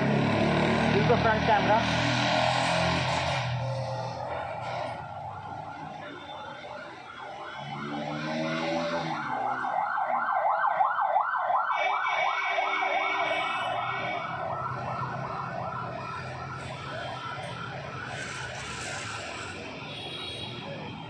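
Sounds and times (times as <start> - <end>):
emergency siren warbling: 0.0 - 21.0.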